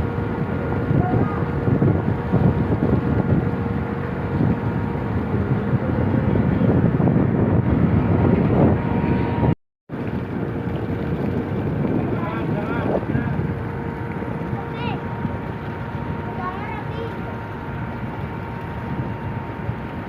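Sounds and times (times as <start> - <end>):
steady engine drone: 0.0 - 20.0
wind buffeting microphone: 0.0 - 20.0.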